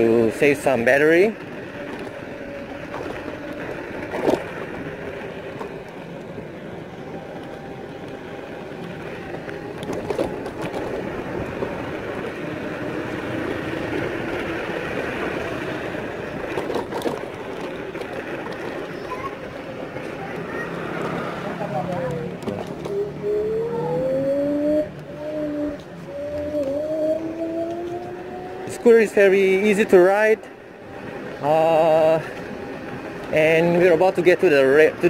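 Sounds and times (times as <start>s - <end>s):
muffled scooter riding noise: 0.0s - 35.0s.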